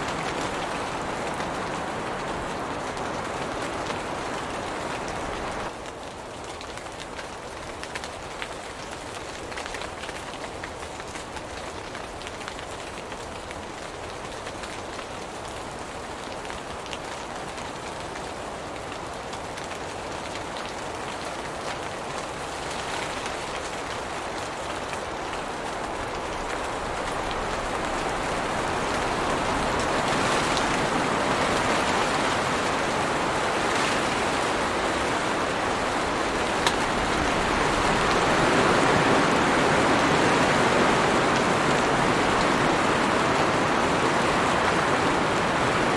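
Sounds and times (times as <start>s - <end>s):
rain falling on leaves: 0.0s - 45.9s.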